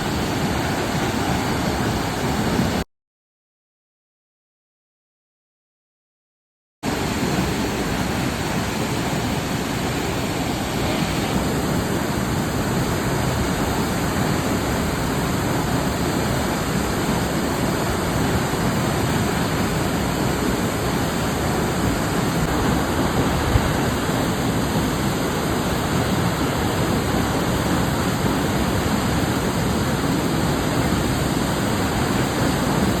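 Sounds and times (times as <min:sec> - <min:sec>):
waterfall roaring: 0:00.0 - 0:02.8, 0:06.9 - 0:33.0.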